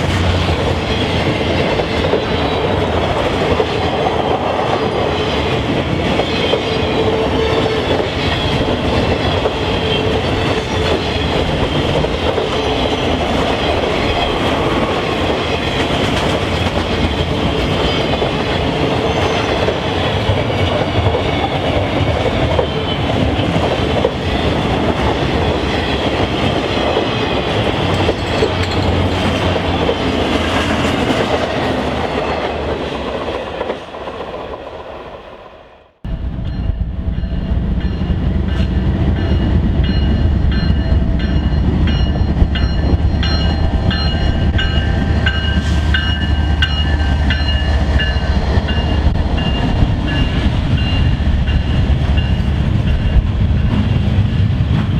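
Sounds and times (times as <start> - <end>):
train rolling on rails: 0.0 - 54.9.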